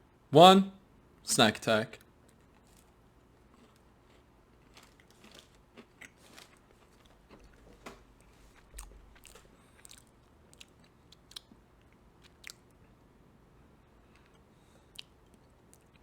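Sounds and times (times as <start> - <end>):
crunching and chewing snack: 2.2 - 13.0, 13.9 - 16.0.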